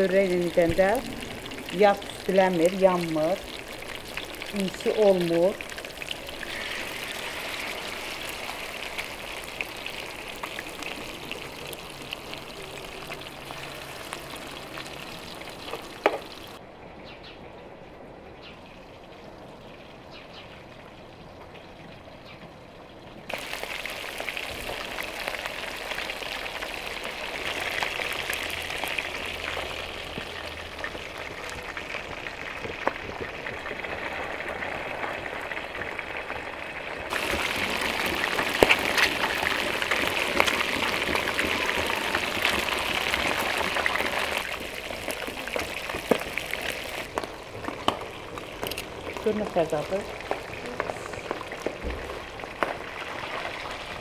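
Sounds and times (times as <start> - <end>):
fish sizzling in hot oil: 0.0 - 16.6, 23.3 - 54.0.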